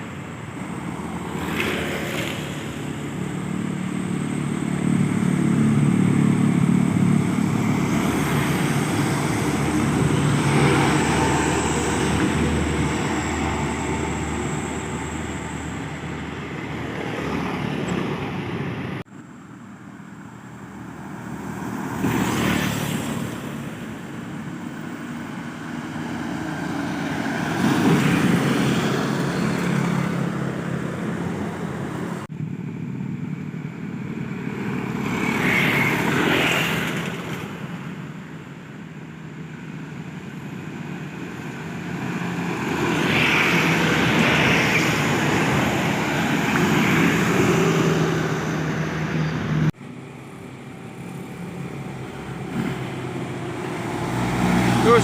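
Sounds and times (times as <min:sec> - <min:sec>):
trucks driving past: 0:00.0 - 0:55.0.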